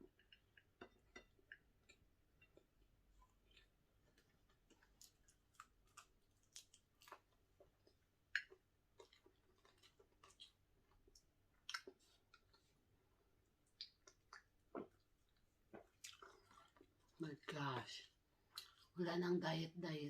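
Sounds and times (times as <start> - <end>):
wet chewing and mouth smacks: 0.0 - 12.9, 13.5 - 17.2, 18.4 - 19.0.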